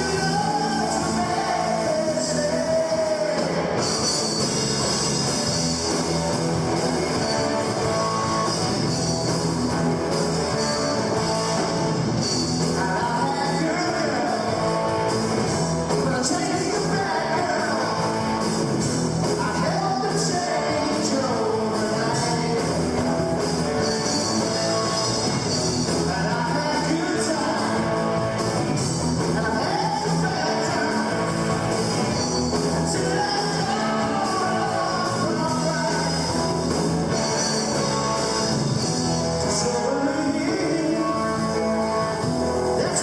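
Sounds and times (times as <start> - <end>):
lead vocal singing: 0.0 - 4.4, 10.4 - 43.0
drums with cymbals: 0.0 - 43.0
electric guitar: 0.0 - 43.0.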